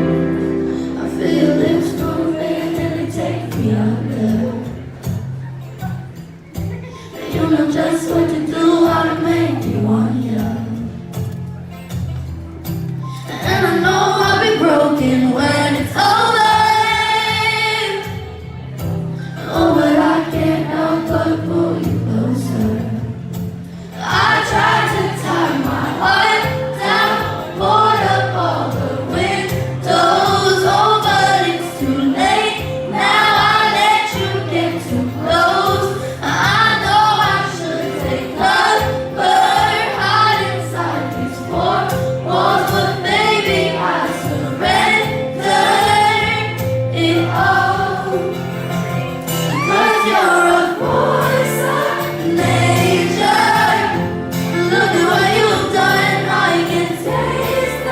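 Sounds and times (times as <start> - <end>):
crowd singing along: 0.0 - 11.2, 13.0 - 57.9
band playing pop music: 0.0 - 57.9
woman singing lead vocal: 0.1 - 5.0, 6.9 - 11.0, 13.1 - 18.4, 19.2 - 48.7, 49.5 - 57.9.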